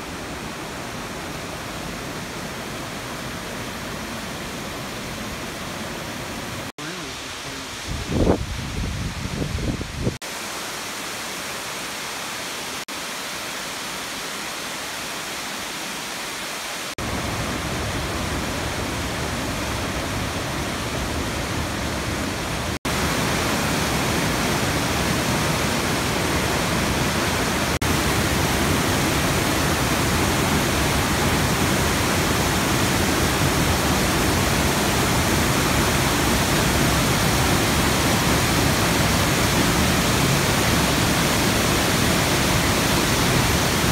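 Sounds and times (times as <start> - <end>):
waterfall rushing over rock: 0.0 - 8.8, 10.2 - 43.9.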